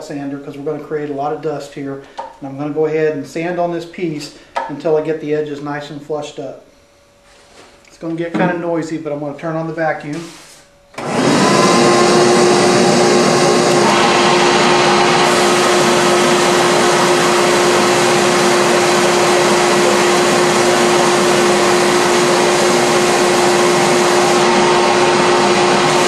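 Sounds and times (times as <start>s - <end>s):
shop vacuum running: 0.0s - 26.0s.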